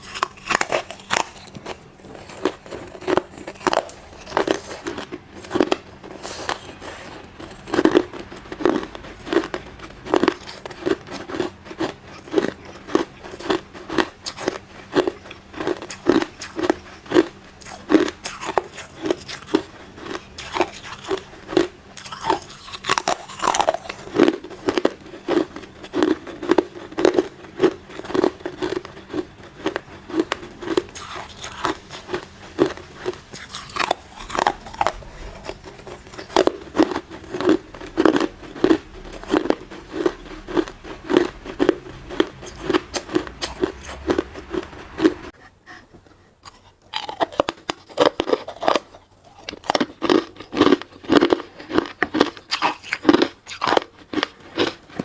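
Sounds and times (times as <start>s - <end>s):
ice being crunched and chewed: 0.0s - 45.3s, 46.0s - 55.0s.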